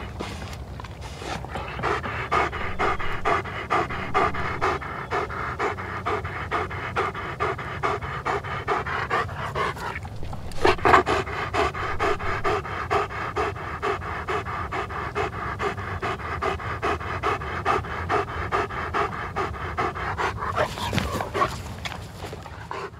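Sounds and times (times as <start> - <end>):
dog panting: 0.0 - 22.9.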